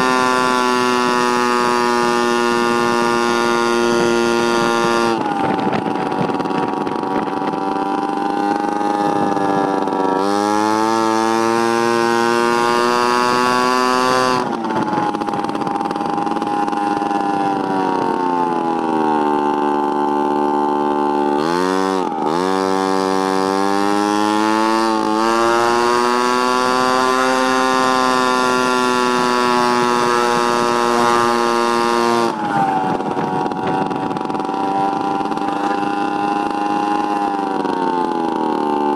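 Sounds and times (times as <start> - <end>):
moped engine running: 0.0 - 38.9.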